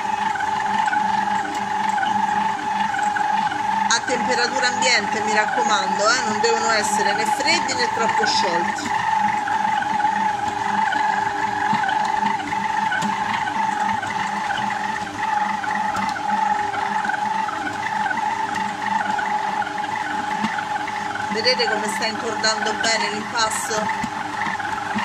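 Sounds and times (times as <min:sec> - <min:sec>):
stand mixer whining: 0:00.0 - 0:25.0.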